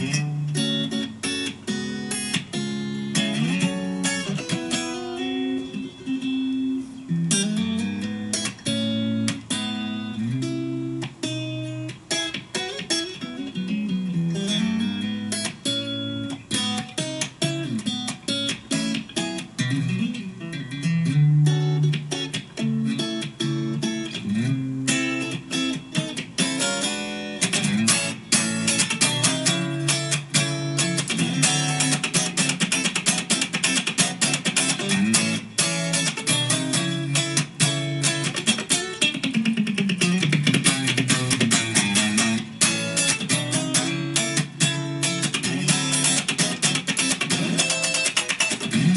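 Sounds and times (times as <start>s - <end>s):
funk electric guitar strumming: 0.0s - 48.9s.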